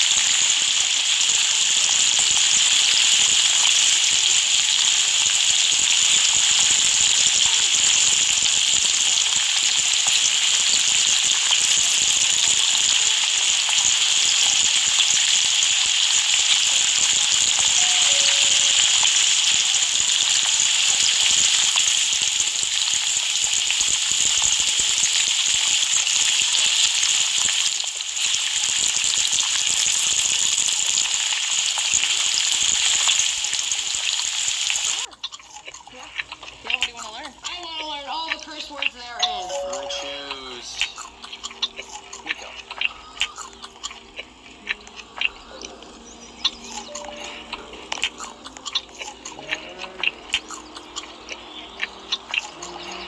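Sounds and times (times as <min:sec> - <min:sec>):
loud steady hissing: 0:00.0 - 0:53.0.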